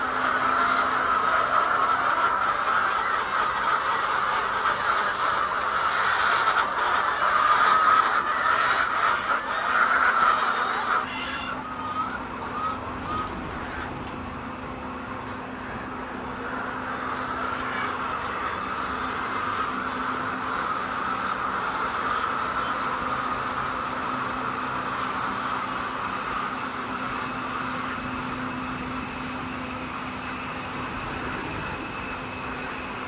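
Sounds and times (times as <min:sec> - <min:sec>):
faint steady hum: 0:00.0 - 0:33.0
hens clucking: 0:00.0 - 0:33.0.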